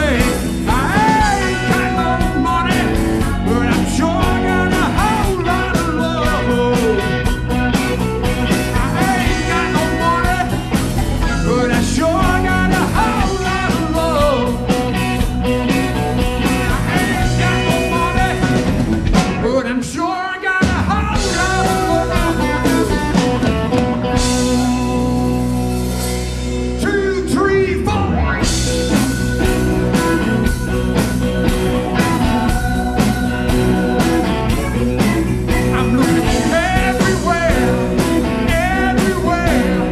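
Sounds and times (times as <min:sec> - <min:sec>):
man singing: 0:00.0 - 0:15.1, 0:16.2 - 0:25.0, 0:26.8 - 0:28.5, 0:31.9 - 0:39.9
live blues-rock band playing: 0:00.0 - 0:39.9.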